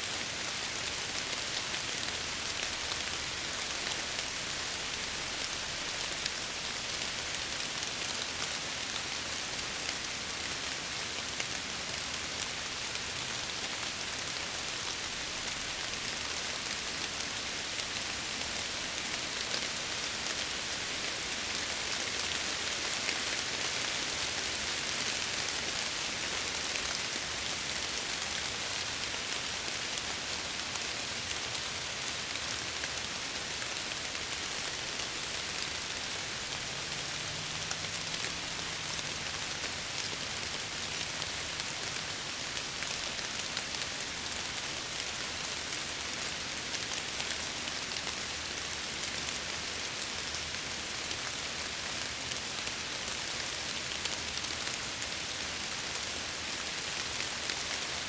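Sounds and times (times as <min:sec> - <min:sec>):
rain hissing on a window: 0:00.0 - 0:58.0.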